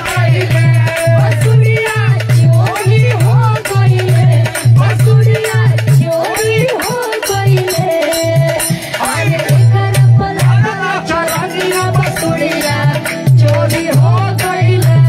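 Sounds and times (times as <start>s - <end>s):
rhythmic hand-clapping: 0.0s - 15.0s.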